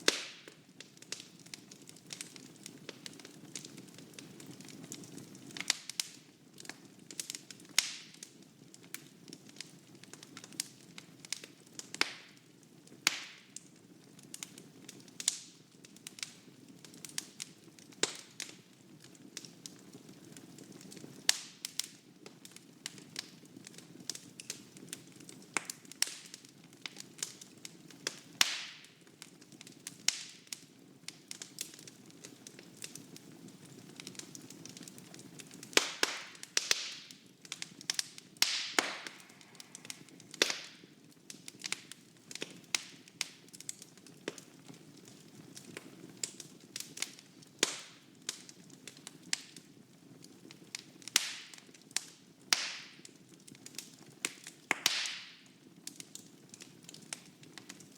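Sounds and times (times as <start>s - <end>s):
wood fire crackling and popping: 0.0s - 57.9s.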